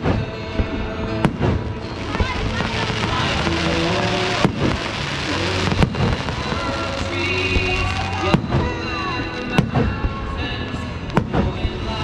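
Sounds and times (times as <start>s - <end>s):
fireworks booming: 0.0s - 10.2s, 11.1s - 12.0s
music playing: 0.0s - 12.0s.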